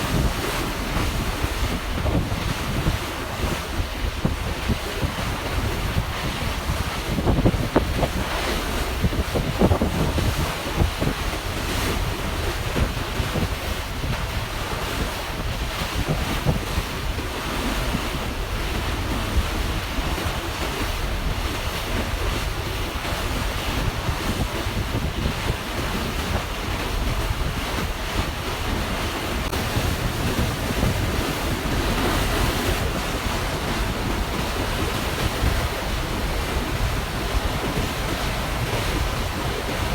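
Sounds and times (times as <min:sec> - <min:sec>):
water rushing past a ferry: 0:00.0 - 0:39.9
wind buffeting the microphone: 0:00.0 - 0:39.9.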